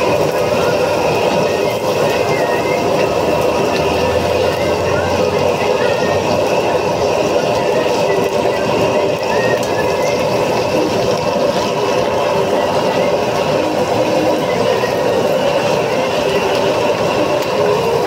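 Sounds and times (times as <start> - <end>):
gas burner roaring: 0.0 - 18.0
oil bubbling and sizzling: 0.0 - 18.0.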